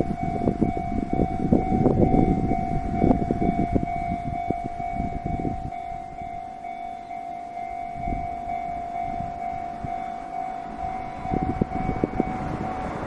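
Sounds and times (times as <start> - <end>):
level crossing alarm ringing: 0.0 - 13.0
train rumbling past: 0.0 - 13.0.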